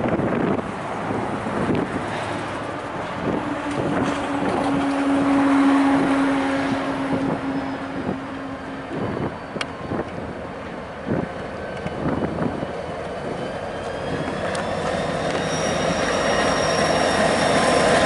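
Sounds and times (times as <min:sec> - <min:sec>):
wind buffeting microphone: 0:00.0 - 0:15.4
train passing: 0:00.0 - 0:18.0.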